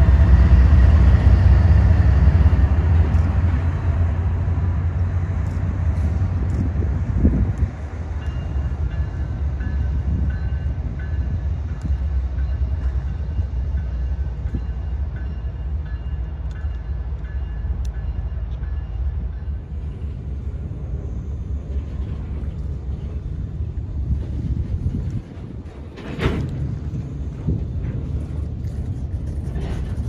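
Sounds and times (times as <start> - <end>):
diesel locomotives rumbling: 0.0 - 30.0.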